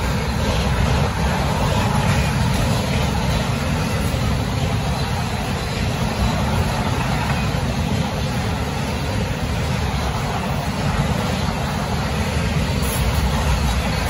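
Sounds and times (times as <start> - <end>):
freight cars rolling past: 0.0 - 14.0.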